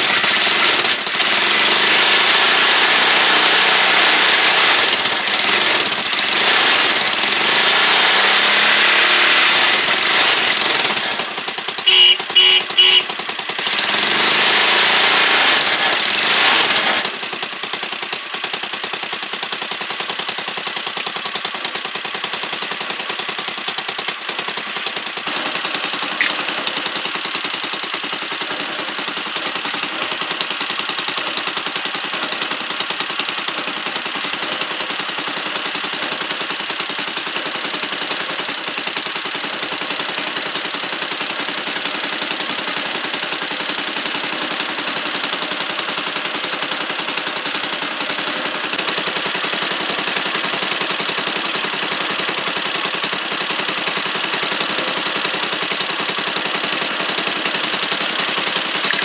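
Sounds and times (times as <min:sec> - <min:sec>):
small engine popping exhaust: 0:00.0 - 0:59.0.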